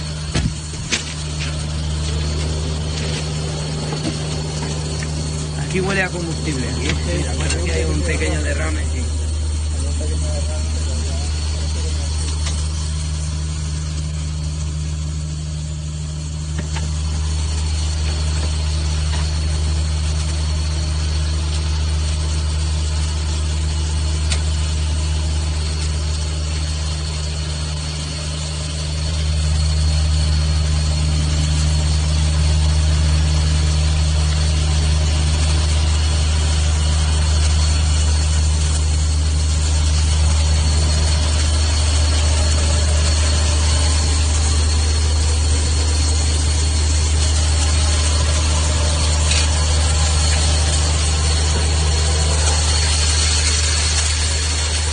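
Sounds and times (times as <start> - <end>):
engine drone with high whine: 0.0 - 54.9.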